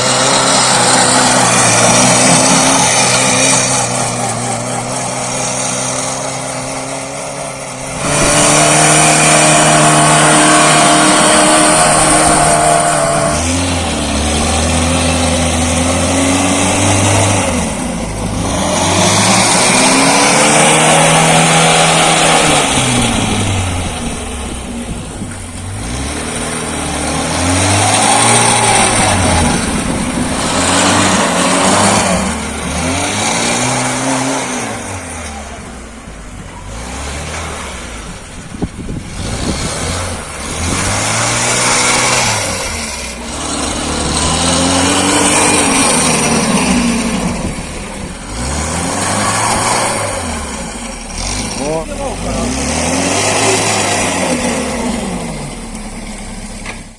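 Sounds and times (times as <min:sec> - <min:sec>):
tractor engine revving: 0:00.0 - 0:56.9.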